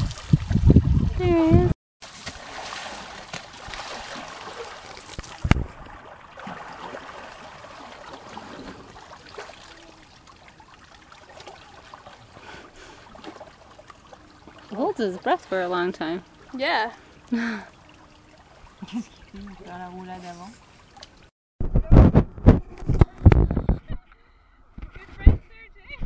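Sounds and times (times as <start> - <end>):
water splashing and trickling: 0.0 - 21.3.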